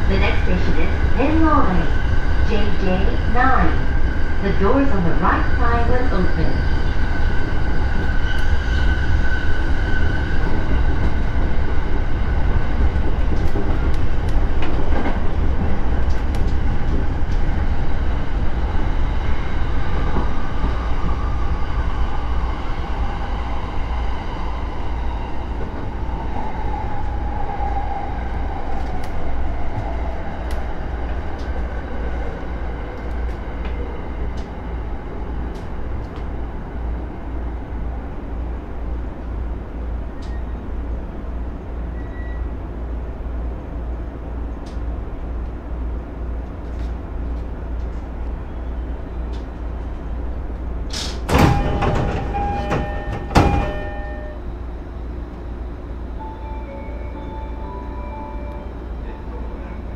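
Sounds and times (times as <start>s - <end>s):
train wheels rumbling on rails: 0.0s - 56.2s.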